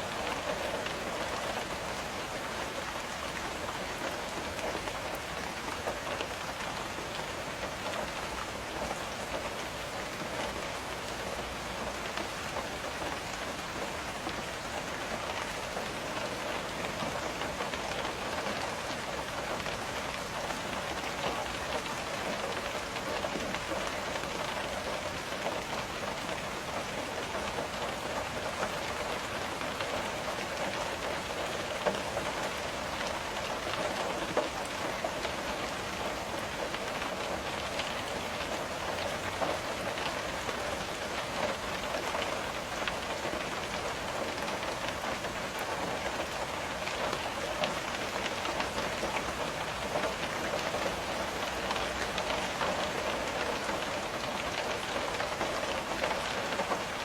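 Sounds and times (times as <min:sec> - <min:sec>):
rain pattering on a window: 0:00.0 - 0:57.0.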